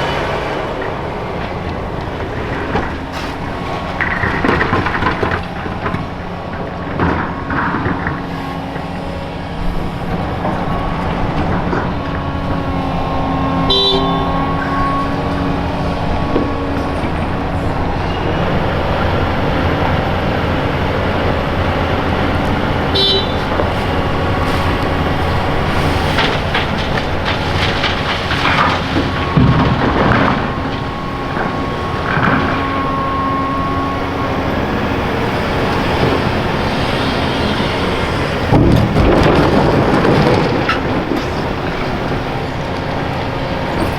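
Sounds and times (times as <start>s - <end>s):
rubble clattering into truck: 0.0s - 9.1s, 10.1s - 43.9s
excavator diesel engine: 0.0s - 43.9s.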